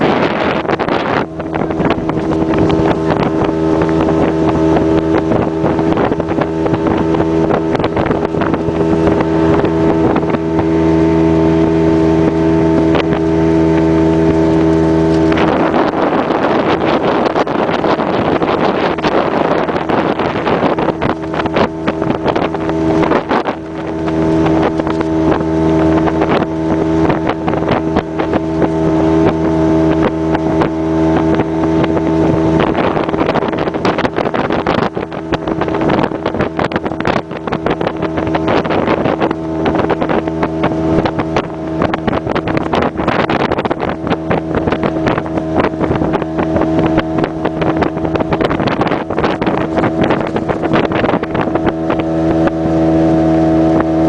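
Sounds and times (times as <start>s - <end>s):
outboard motor running: 0.0s - 54.0s
water rushing past: 0.0s - 54.0s
wind buffeting microphone: 0.0s - 54.0s.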